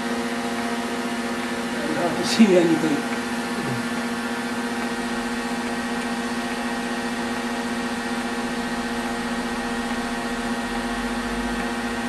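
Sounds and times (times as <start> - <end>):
welding electrical hum: 0.0 - 12.0.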